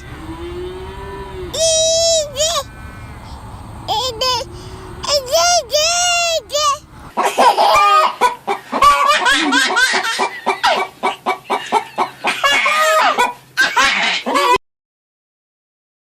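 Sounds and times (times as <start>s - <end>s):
chickens clucking: 0.0s - 14.5s.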